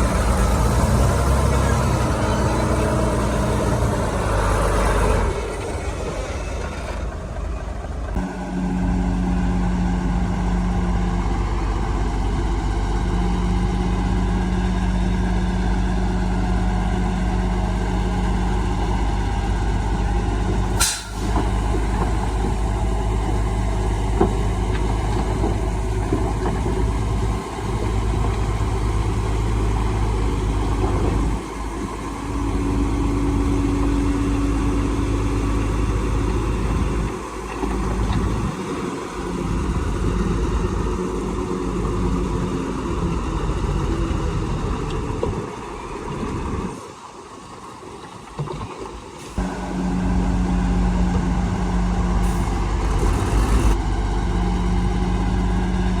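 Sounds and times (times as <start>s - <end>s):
heavy diesel engines running: 0.0s - 48.4s, 49.0s - 56.0s.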